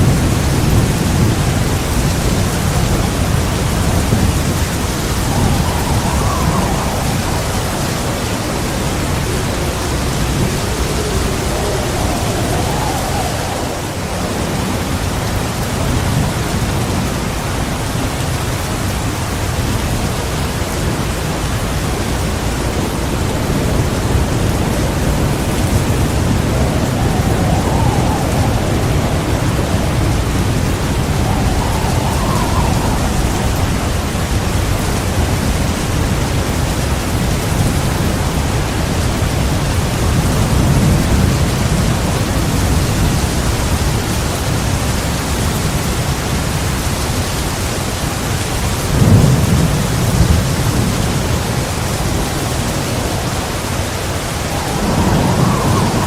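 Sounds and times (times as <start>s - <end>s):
thunder clap: 0.0s - 18.2s, 21.3s - 46.0s, 48.6s - 56.0s
thunder rolling: 0.0s - 47.1s, 48.1s - 56.0s
heavy rain pouring: 0.0s - 56.0s.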